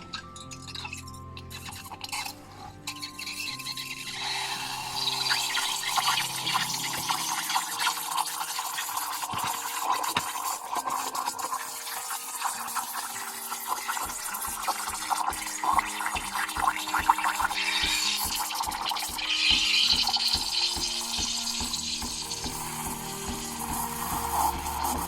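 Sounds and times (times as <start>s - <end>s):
soft background music: 0.0s - 25.0s
steam wand hissing: 1.5s - 25.0s.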